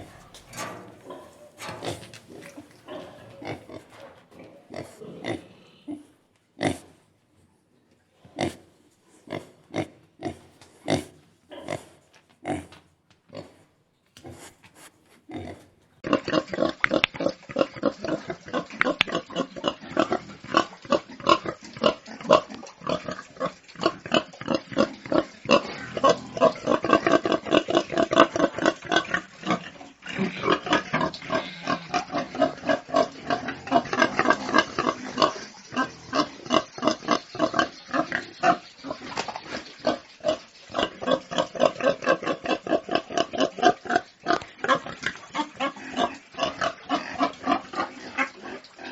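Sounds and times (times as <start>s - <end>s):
pigs grunting: 0.0s - 7.0s, 8.3s - 13.6s, 15.3s - 48.9s.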